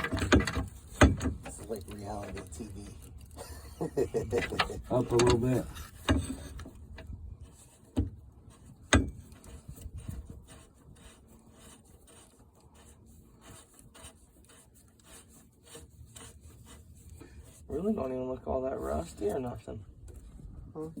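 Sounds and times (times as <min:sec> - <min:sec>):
faint scraping and light taps: 0:00.0 - 0:21.0.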